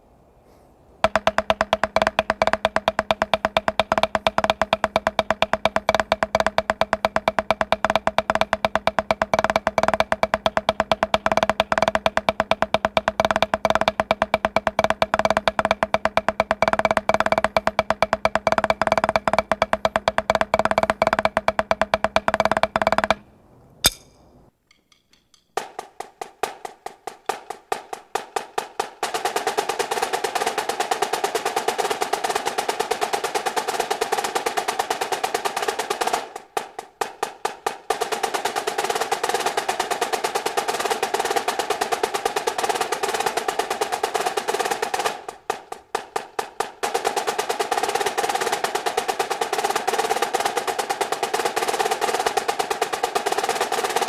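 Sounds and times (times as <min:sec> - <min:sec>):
drumsticks roll on practice pad: 0:01.0 - 0:23.2, 0:23.8 - 0:54.0
marching snare drums: 0:01.0 - 0:23.2, 0:25.6 - 0:54.0.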